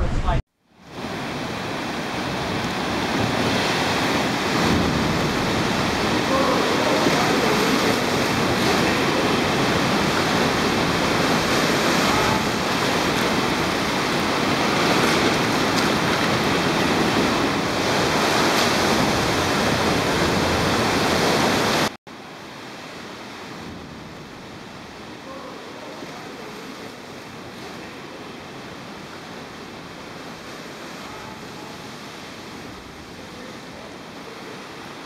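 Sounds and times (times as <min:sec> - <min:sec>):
ocean swell washing against rock: 0:00.9 - 0:35.0.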